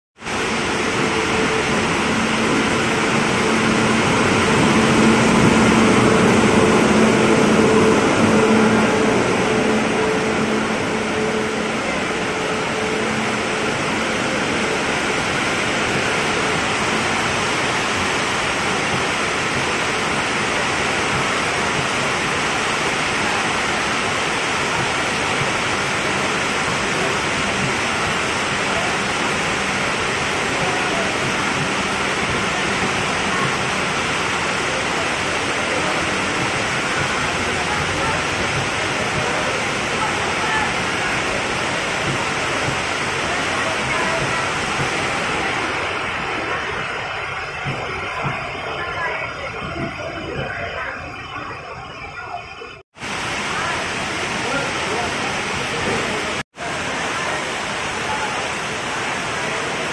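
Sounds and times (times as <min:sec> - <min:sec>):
electric locomotive humming: 0:00.2 - 0:59.9
train wheels on rails: 0:00.2 - 0:59.9.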